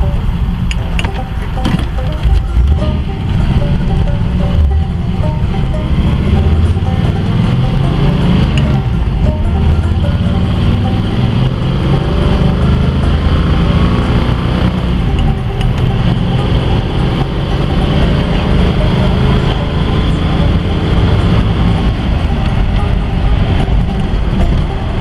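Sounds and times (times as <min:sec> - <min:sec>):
car engine driving: 0:00.0 - 0:25.0
road noise: 0:00.0 - 0:25.0.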